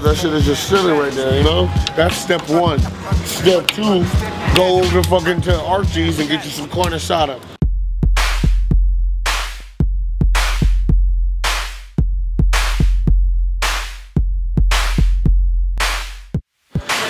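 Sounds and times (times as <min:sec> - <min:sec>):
instrumental beat with deep bass: 0:00.0 - 0:17.0.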